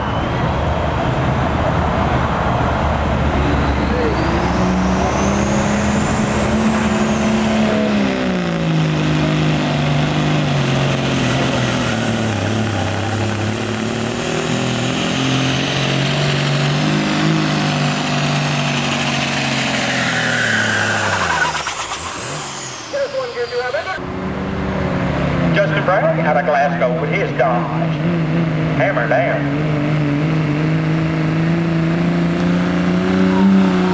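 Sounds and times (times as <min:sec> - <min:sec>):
diesel truck engine at full throttle: 0:00.0 - 0:33.9.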